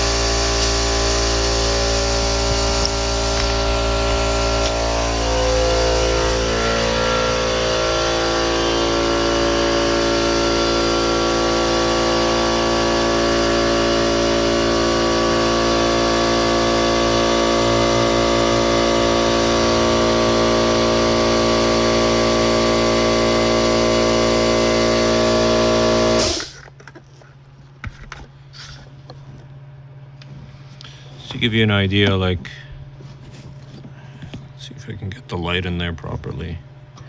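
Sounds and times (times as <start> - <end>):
air compressor running: 0.0 - 34.8
low hum: 0.0 - 37.0.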